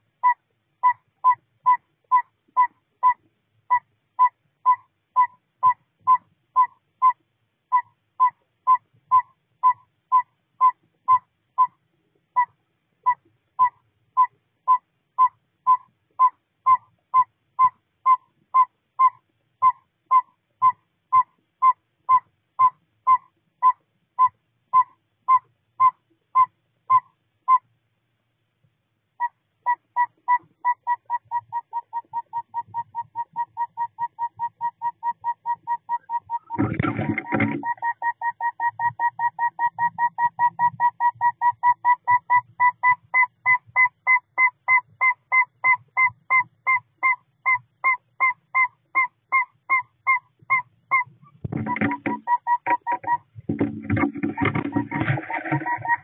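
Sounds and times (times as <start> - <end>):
owl tooting call: 0.2 - 27.7, 29.2 - 56.0.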